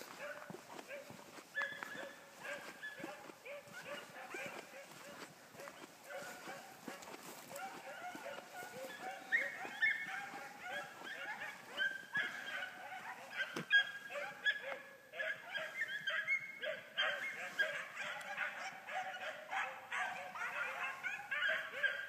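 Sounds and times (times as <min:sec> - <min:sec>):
hounds yipping and baying: 0:00.0 - 0:22.0.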